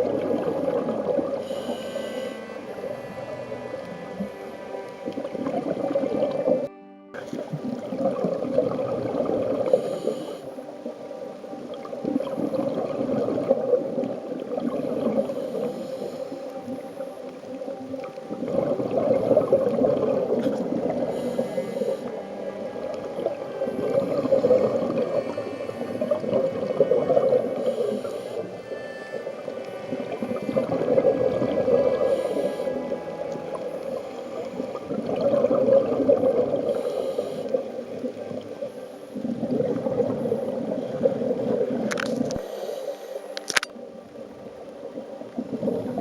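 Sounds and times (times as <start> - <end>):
underwater bubbles gurgling: 0.0 - 46.0.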